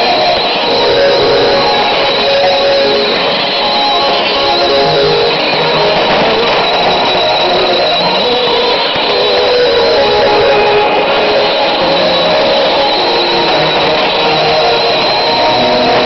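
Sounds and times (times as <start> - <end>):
radio music through speaker: 0.0 - 16.0.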